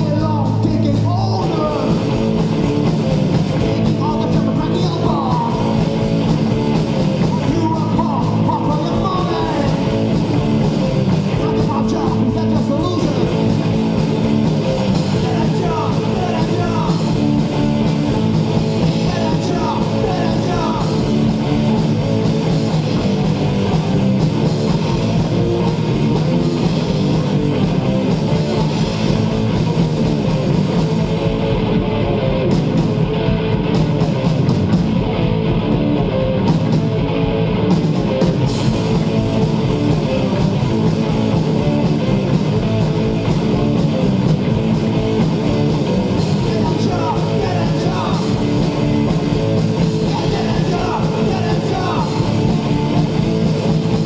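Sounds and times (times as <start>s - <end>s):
bass guitar: 0.0s - 54.0s
drum kit: 0.0s - 54.0s
electric guitars: 0.0s - 54.0s.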